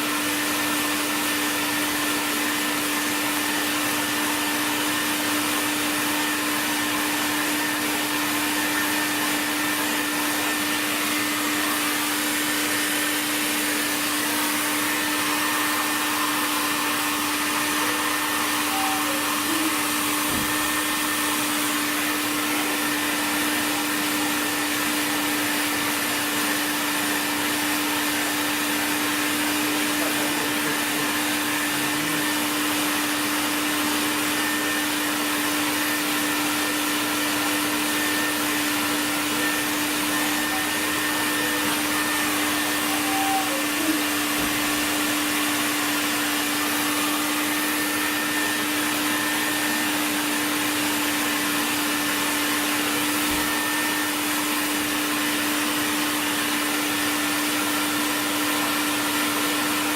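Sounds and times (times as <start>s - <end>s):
electric blower motor whirring: 0.0s - 59.9s.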